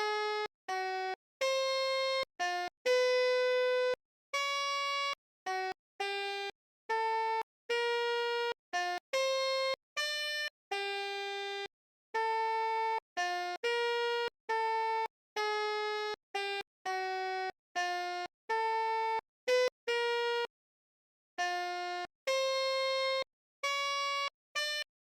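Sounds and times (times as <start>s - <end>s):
multi-tone bus horn playing jingle: 0.0s - 20.5s, 21.4s - 24.9s.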